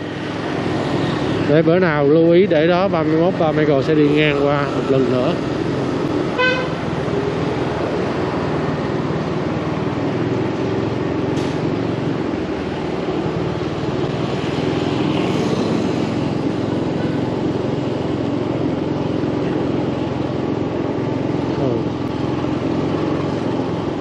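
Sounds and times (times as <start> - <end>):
motorbike engines humming: 0.0 - 24.0.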